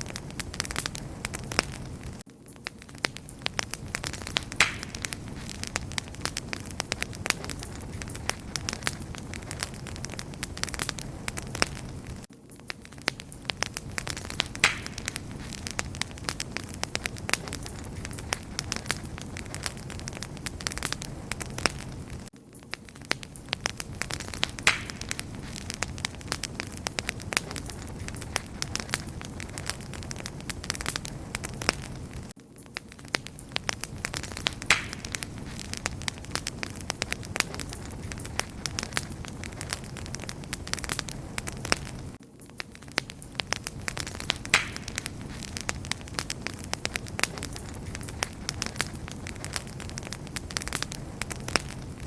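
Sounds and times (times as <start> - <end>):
fire pops and snaps: 0.0 - 52.0
low rumble of burning: 0.0 - 52.0.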